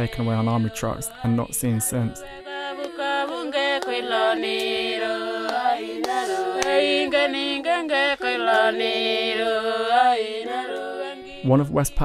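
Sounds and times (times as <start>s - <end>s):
unaccompanied voices singing chant: 0.0s - 12.0s.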